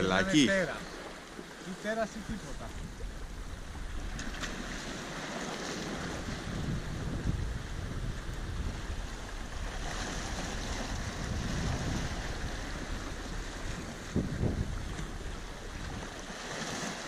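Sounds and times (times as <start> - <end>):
sea waves breaking on rocks: 0.0 - 17.0
wind on microphone: 2.2 - 17.0.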